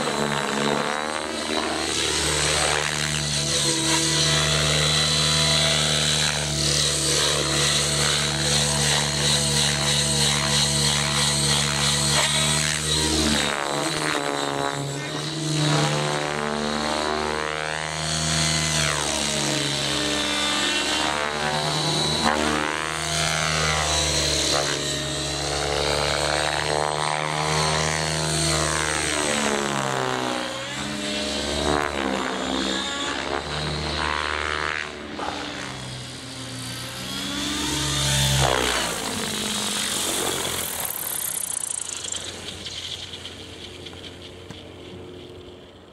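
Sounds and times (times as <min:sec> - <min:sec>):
rc helicopter rotor drone: 0:00.0 - 0:45.9.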